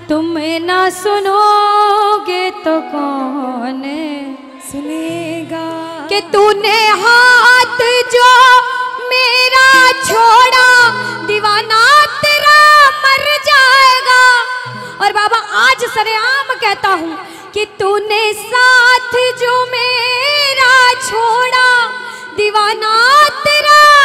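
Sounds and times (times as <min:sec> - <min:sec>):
woman singing into a microphone: 0:00.0 - 0:24.0.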